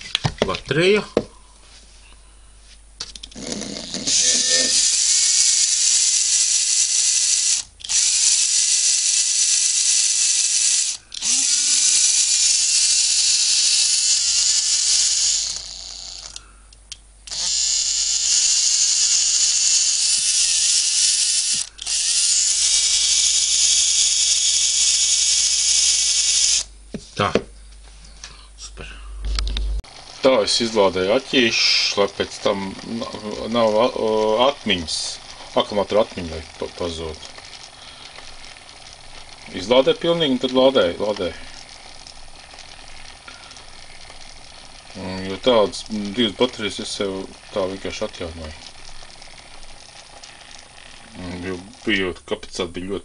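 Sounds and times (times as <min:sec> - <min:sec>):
small electric motor whining: 0:03.3 - 0:16.5, 0:17.3 - 0:26.7, 0:29.3 - 0:52.1.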